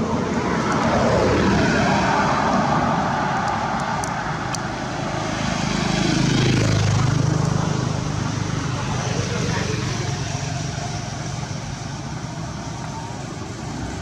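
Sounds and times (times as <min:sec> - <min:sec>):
low engine hum: 0:00.0 - 0:14.0
vehicle passing: 0:00.0 - 0:14.0.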